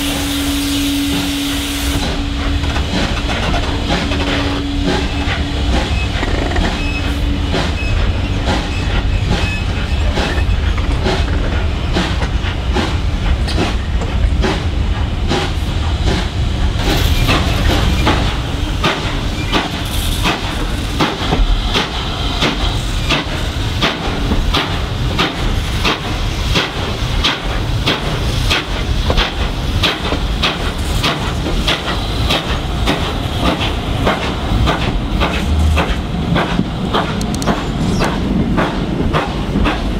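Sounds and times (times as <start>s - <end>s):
steam hissing: 0.0s - 39.9s
train wheels clacking on rail joints: 0.0s - 39.9s.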